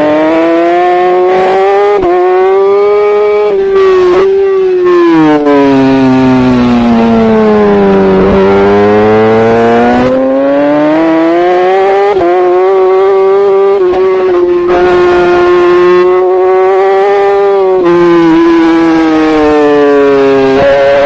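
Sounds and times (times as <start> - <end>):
superbike engine at high revs: 0.0 - 21.0.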